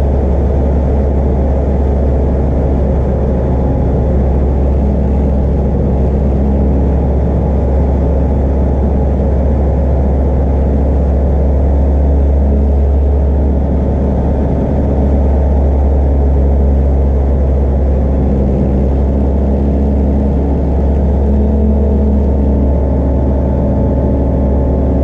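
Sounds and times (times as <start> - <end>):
light aircraft engine drone: 0.0 - 25.0.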